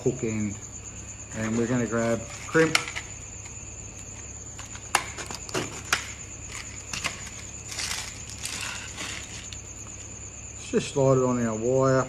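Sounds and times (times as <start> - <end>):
cricket trill: 0.0 - 12.0.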